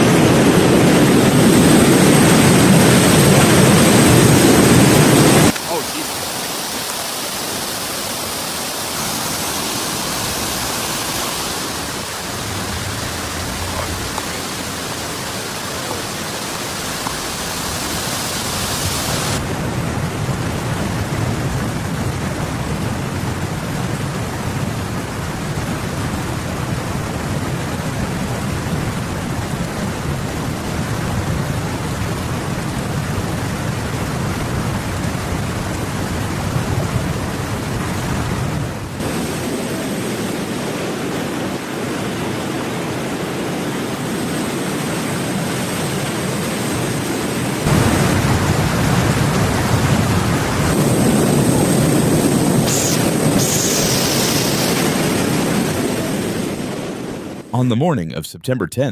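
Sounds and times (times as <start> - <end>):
rushing water: 0.0 - 57.3.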